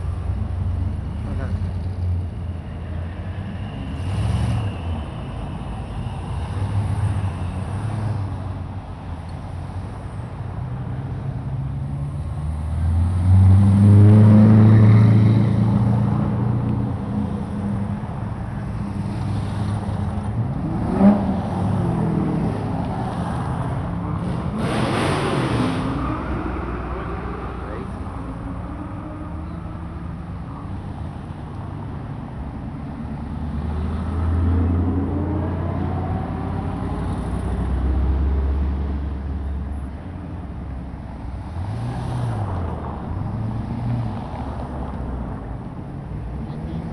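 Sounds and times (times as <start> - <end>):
cars driving past: 0.0 - 46.9.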